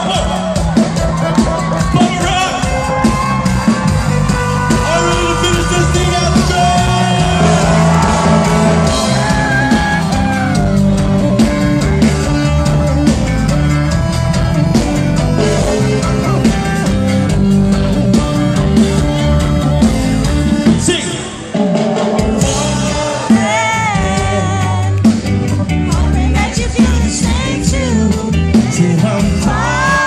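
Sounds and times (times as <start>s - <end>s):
heavy bass line: 0.0s - 30.0s
live reggae rock band: 0.0s - 30.0s
steady drum beat: 0.0s - 30.0s.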